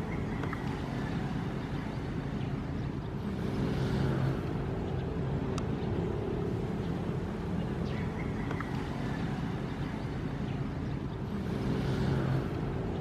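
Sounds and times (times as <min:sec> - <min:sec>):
ocean waves: 0:00.0 - 0:13.0.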